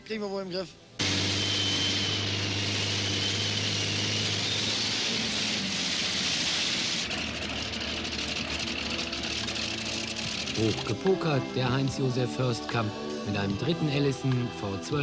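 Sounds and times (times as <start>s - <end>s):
aircraft engines idling: 1.0s - 15.0s.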